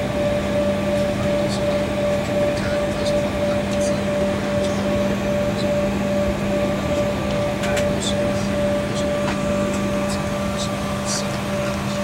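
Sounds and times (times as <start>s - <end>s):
airliner cabin hum: 0.0s - 12.0s.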